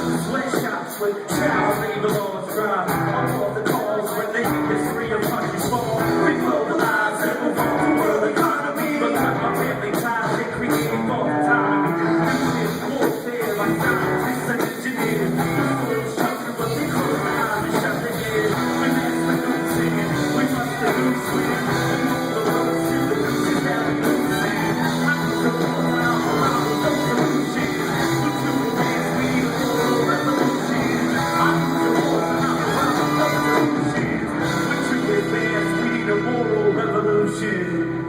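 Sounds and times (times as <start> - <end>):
electric guitar: 0.0 - 38.0
live rock band playing: 0.0 - 38.0.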